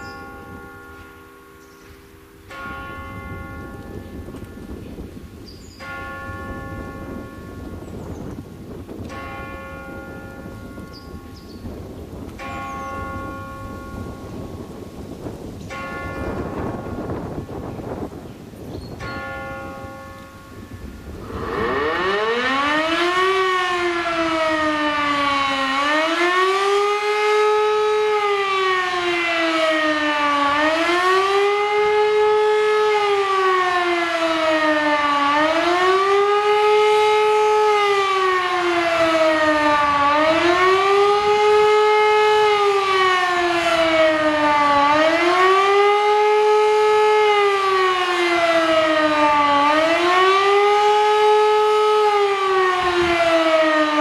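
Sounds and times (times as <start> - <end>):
undulating warning siren: 0.0 - 54.0.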